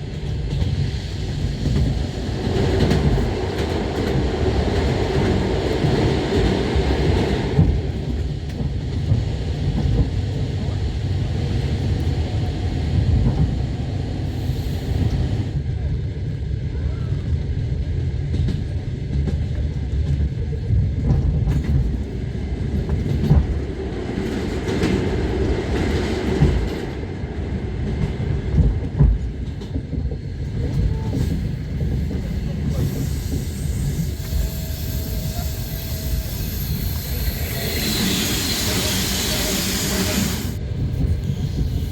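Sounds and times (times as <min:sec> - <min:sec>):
train rumble inside carriage: 0:00.0 - 0:41.9.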